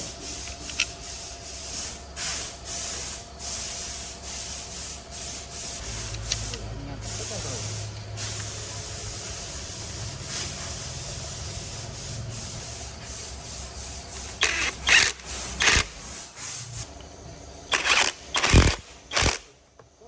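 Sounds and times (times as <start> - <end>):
low machine hum with hiss: 0.0 - 20.0.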